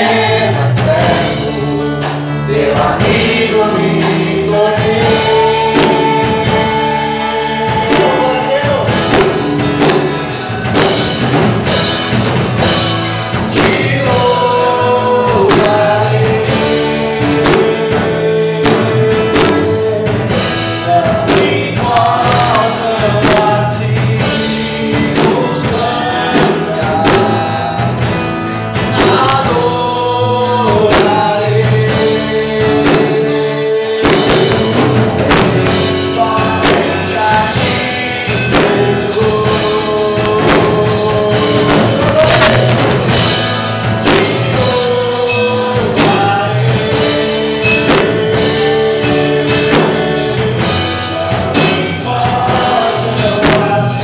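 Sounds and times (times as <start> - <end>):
man singing into a microphone: 0.0 - 10.1, 13.4 - 54.0
acoustic guitar: 0.0 - 54.0
electric bass: 0.0 - 54.0.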